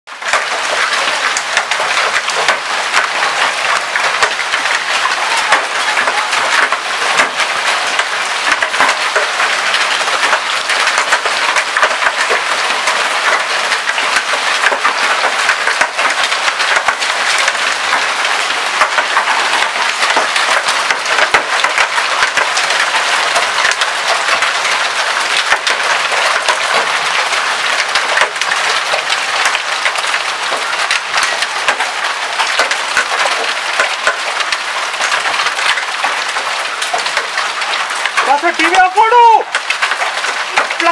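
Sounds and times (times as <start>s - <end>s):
hailstones pelting: 0.1s - 40.9s
rain hiss: 0.1s - 40.9s.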